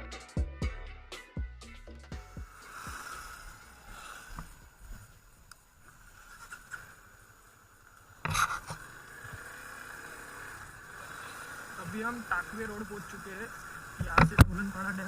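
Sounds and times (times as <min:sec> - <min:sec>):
wind hiss: 0:02.2 - 0:15.0.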